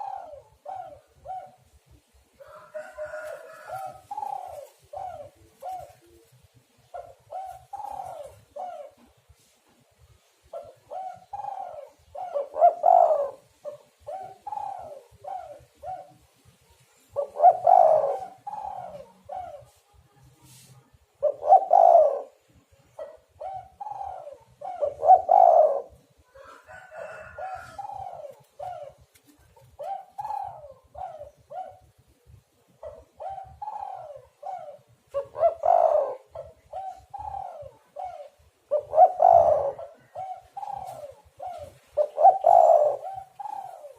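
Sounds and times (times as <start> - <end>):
dove cooing: 0.0 - 9.5, 10.1 - 43.9.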